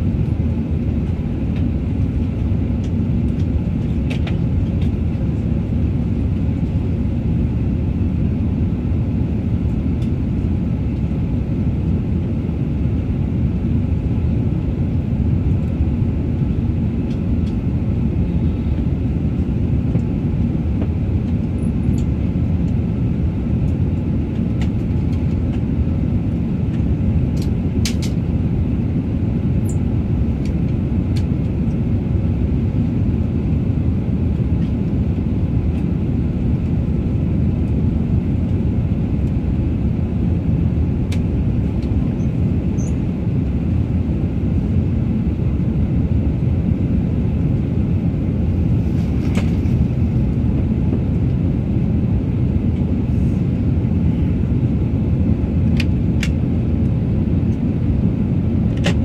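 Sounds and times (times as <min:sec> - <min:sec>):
airplane cabin engine rush: 0:00.0 - 0:59.0.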